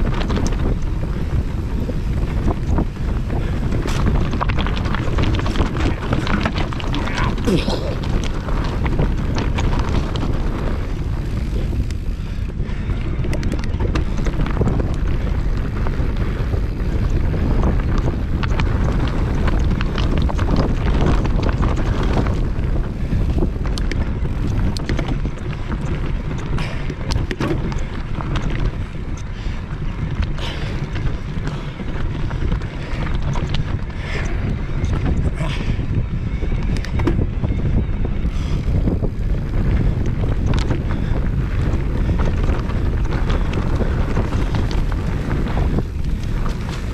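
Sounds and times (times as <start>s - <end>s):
bike clicks and rattles: 0.0s - 46.9s
tyres on rough stony trail: 0.0s - 46.9s
wind buffeting microphone: 0.0s - 46.9s.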